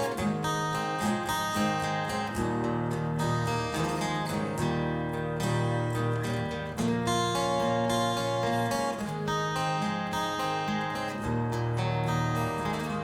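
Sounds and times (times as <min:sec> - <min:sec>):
instrumental guitar music over loudspeakers: 0:00.0 - 0:13.0.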